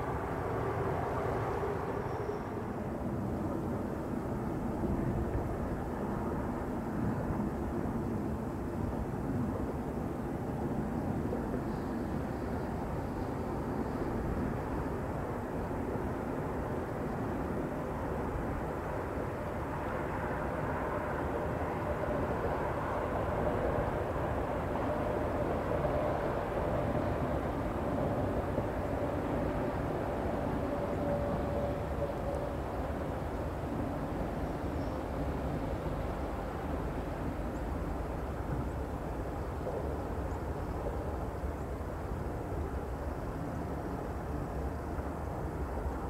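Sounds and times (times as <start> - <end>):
distant freight train rumbling on bridge: 0.0 - 46.0.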